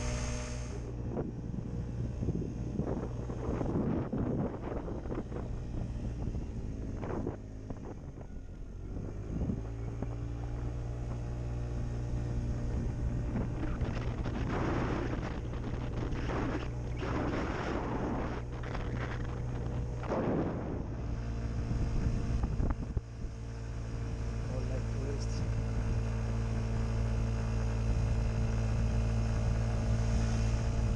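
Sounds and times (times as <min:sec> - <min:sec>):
motor scooter engine running: 0:00.0 - 0:30.9
wind rushing over microphone: 0:00.0 - 0:30.9.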